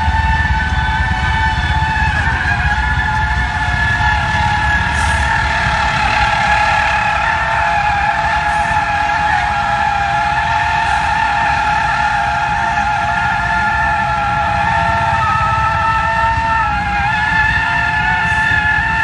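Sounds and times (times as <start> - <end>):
truck and road rumble: 0.0 - 19.0
tyres screeching on asphalt: 0.0 - 19.0.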